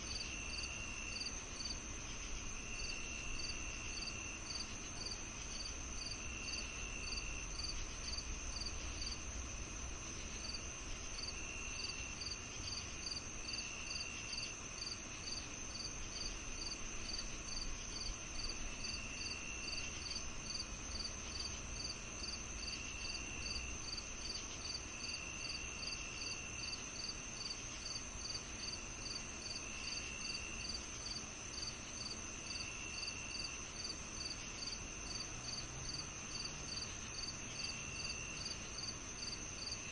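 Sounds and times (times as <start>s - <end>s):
crickets chirping: 0.0s - 39.9s
high insect trill: 0.0s - 39.9s
lower insect trill: 0.0s - 39.9s.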